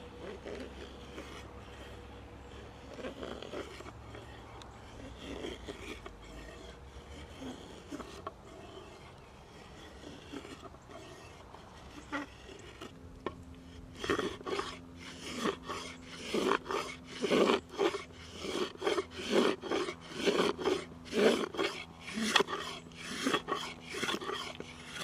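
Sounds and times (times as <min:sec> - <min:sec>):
hand saw cutting wood: 0:00.0 - 0:25.0.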